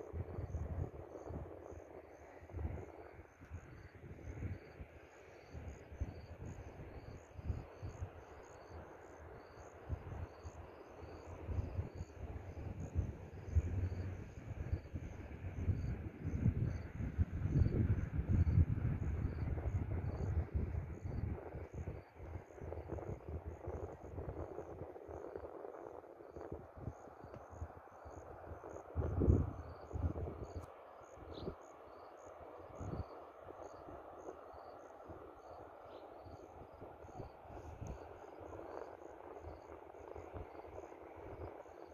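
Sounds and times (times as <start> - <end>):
crickets chirping: 0.0 - 41.9
wind rumble on microphone: 0.0 - 41.9.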